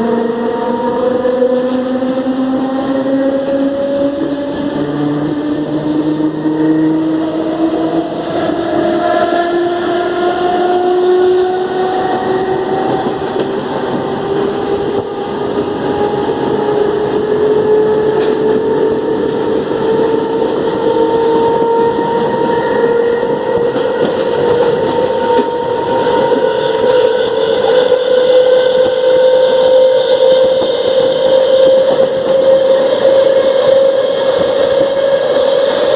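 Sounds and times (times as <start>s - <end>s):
train motor whine rising: 0.0s - 35.9s
train wheels rumbling on track: 0.0s - 35.9s.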